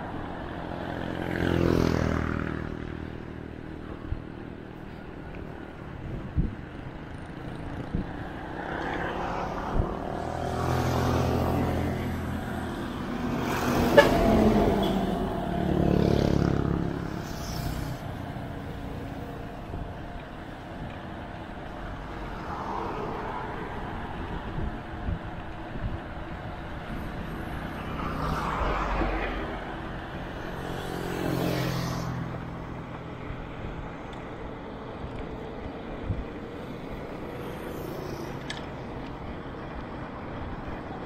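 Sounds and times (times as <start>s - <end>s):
motor vehicles passing: 0.0s - 41.0s.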